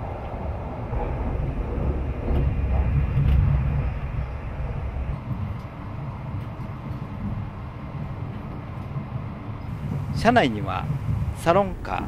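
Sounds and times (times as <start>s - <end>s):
wheels rumbling on rails: 0.0s - 12.0s.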